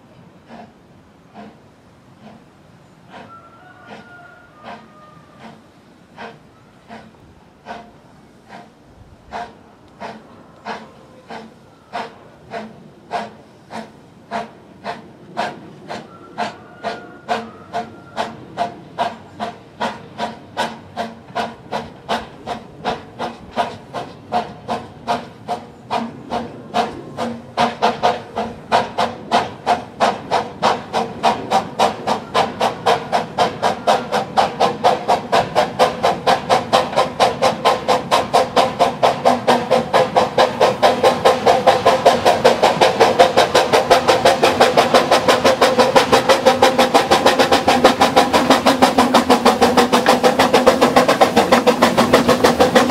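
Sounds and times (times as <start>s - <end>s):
steam locomotive chuffing: 0.0s - 4.0s, 4.6s - 52.9s.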